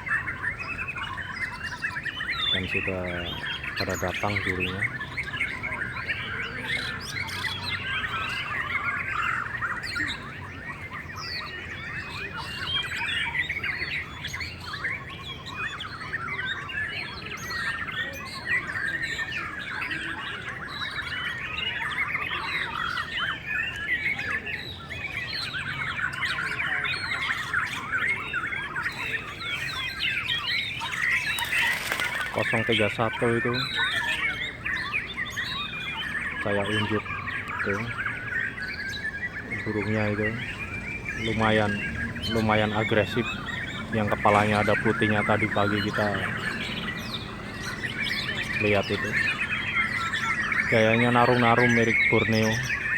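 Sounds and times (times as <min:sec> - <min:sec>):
birds singing in chorus: 0:00.0 - 0:52.9.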